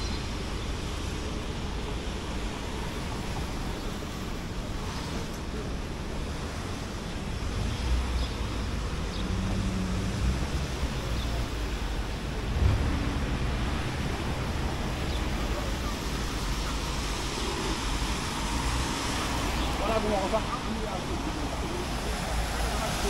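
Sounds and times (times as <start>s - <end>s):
traffic hiss: 0.0s - 23.0s.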